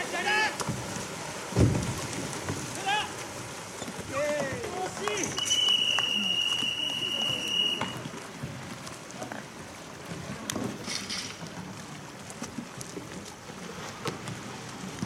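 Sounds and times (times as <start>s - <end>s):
hiss of wind and water: 0.0s - 15.0s
paddles knocking on hulls: 0.0s - 15.0s
paddles splashing in water: 0.0s - 15.0s.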